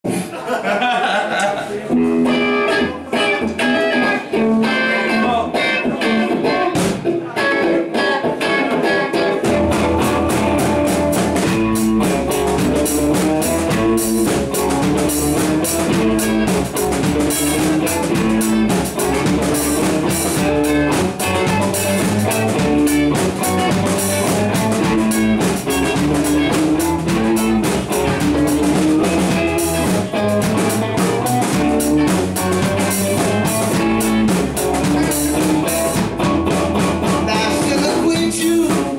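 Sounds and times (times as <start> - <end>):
bass and drum kit: 1.9 - 38.9
electric guitars playing a riff: 1.9 - 38.9.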